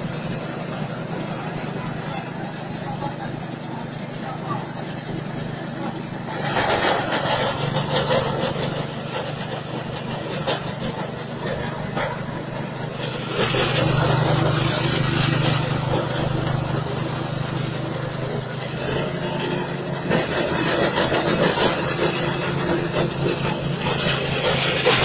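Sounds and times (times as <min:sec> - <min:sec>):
chopper machine engine humming: 0:00.0 - 0:25.0
rattling noise: 0:00.0 - 0:25.0.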